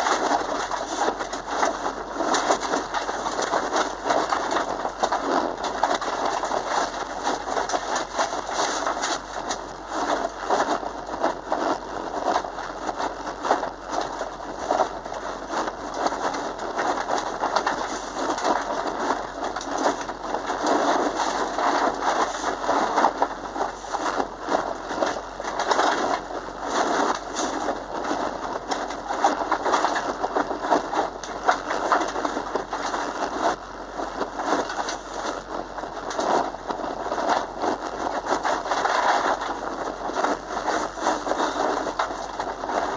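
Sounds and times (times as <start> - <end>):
car engine and tyre noise: 0.0 - 42.9.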